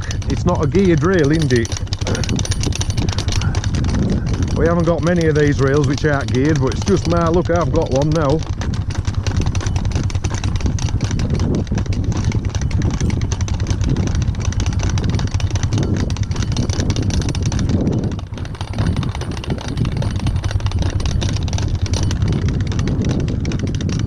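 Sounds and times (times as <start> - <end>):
engine idling: 0.0 - 24.0
fence reel clicking: 0.0 - 24.0.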